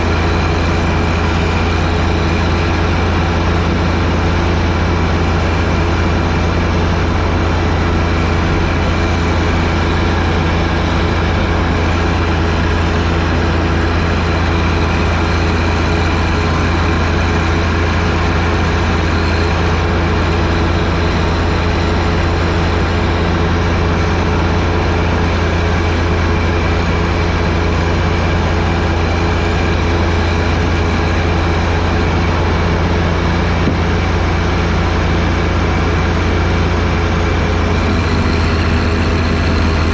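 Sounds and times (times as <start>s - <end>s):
snowblower hum and hiss: 0.0s - 39.9s
tractor diesel engine running: 0.0s - 39.9s.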